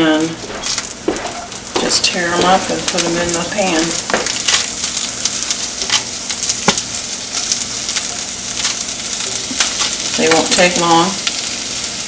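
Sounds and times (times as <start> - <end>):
leaves sizzling in oil: 0.0 - 12.0.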